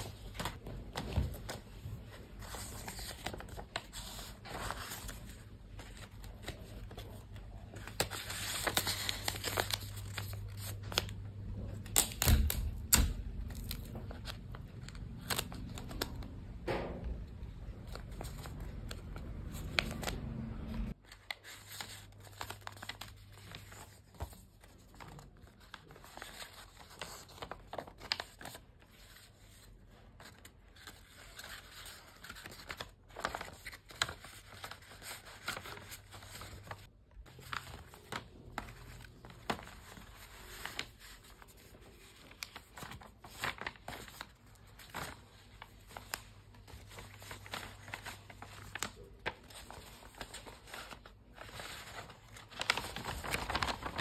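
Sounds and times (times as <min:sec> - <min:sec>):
paper crinkling and rustling: 0:00.0 - 0:16.5, 0:17.4 - 0:54.0.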